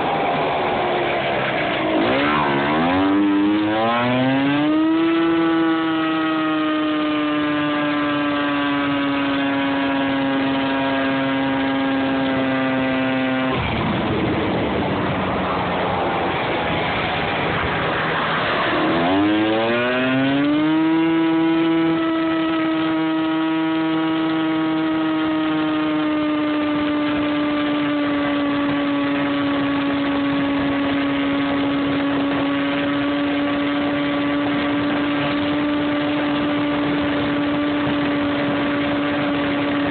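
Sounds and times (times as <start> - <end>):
motor scooter engine running: 0.0 - 39.9
wind and road noise: 0.0 - 39.9.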